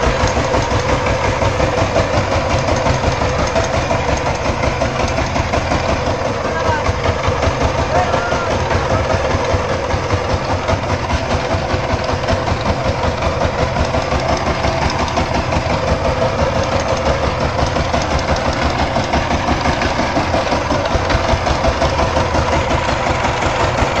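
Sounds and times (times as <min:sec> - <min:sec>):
diesel engine pulsing: 0:00.0 - 0:24.0.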